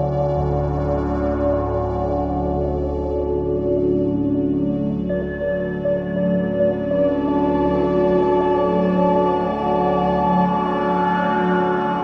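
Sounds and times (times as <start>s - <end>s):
ambient music with sustained tones: 0.0s - 12.0s.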